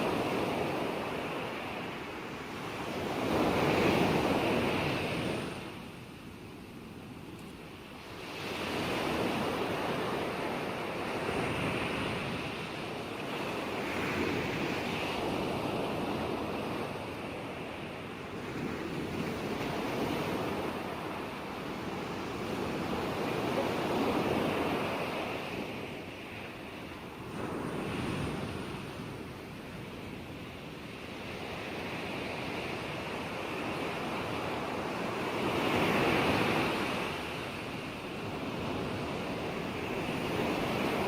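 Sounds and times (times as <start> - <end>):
ocean waves washing in: 7.8 - 41.0.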